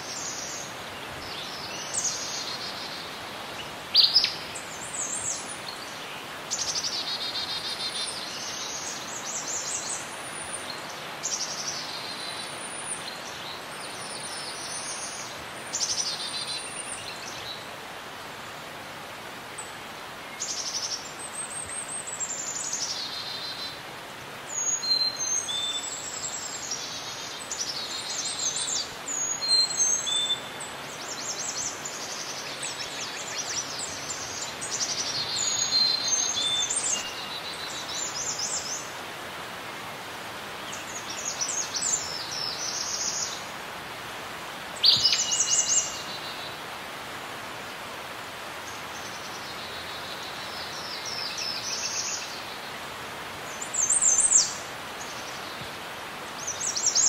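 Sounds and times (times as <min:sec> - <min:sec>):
background hiss: 0:00.0 - 0:57.0
songbirds singing: 0:00.0 - 0:57.0.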